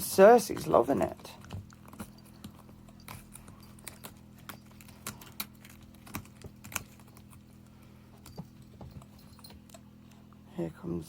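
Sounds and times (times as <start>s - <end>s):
cat claws scratching cardboard: 0.0s - 9.5s
low steady hum: 0.0s - 11.0s.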